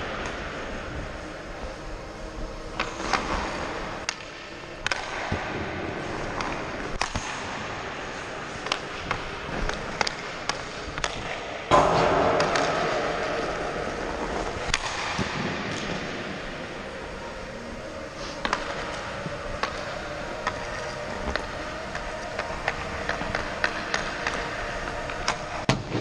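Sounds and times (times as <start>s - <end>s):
ice skates gliding: 0.0s - 26.0s
skate blades scraping ice: 0.0s - 26.0s
hockey stick tapping puck: 2.8s - 16.7s, 18.3s - 26.0s.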